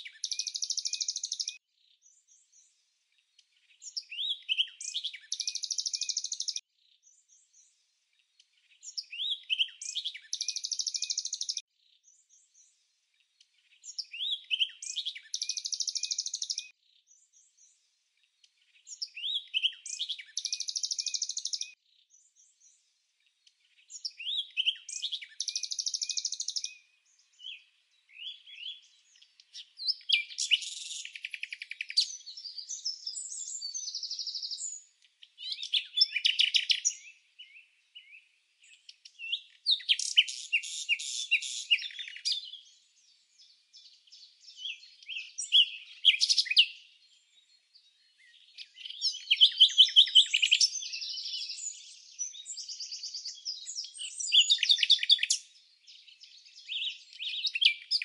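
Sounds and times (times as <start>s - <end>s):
wren singing trills: 0.0s - 2.8s, 3.5s - 7.8s, 8.6s - 12.8s, 13.6s - 17.8s, 18.6s - 22.8s, 23.7s - 58.0s.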